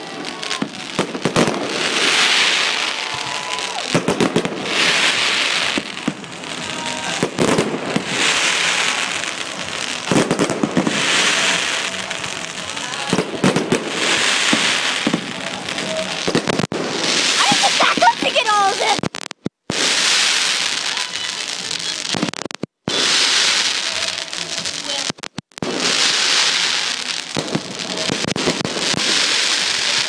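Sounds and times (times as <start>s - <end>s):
firework bangs: 0.0s - 30.0s
firework crackling shower: 0.0s - 30.0s.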